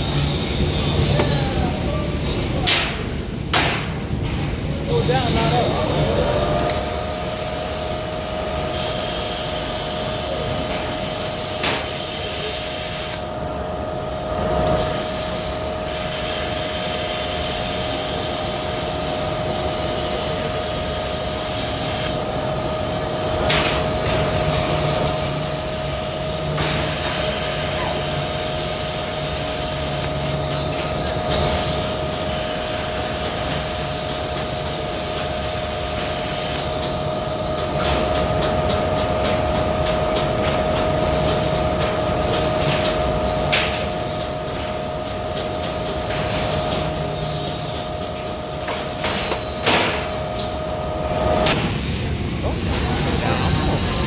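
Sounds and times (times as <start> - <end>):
plasma cutter arc hissing: 4.8 - 54.0.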